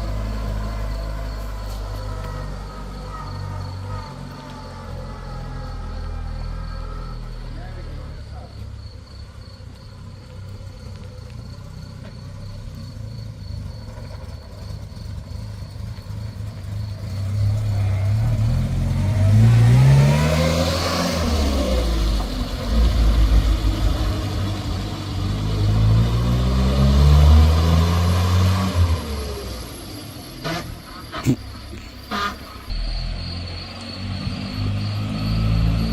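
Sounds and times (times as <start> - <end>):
small car engine accelerating: 0.0 - 35.9.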